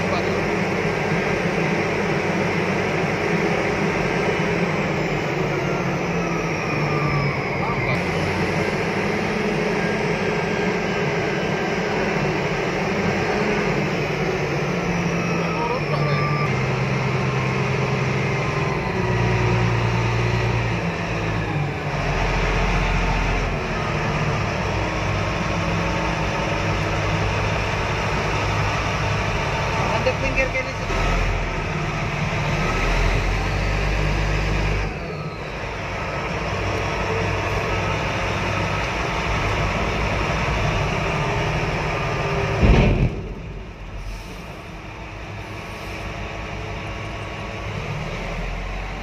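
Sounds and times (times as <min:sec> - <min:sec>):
diesel truck engine running: 0:00.0 - 0:49.0.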